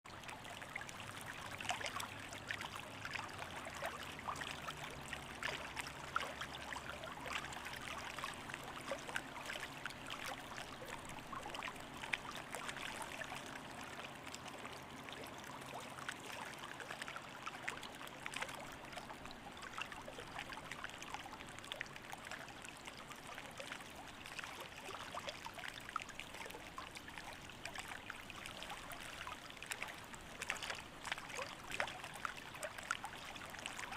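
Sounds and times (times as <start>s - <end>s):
faint low hum: 0.1s - 33.9s
water trickling and splashing: 0.1s - 33.9s.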